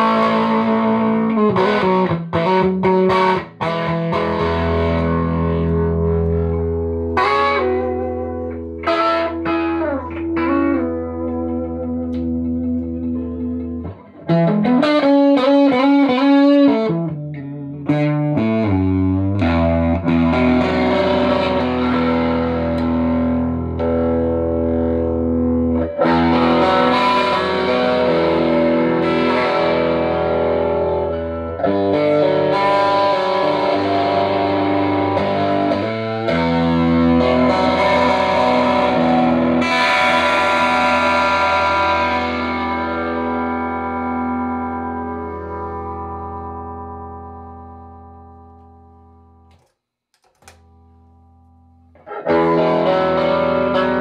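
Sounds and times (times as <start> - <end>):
overdriven electric guitar: 0.0 - 54.0.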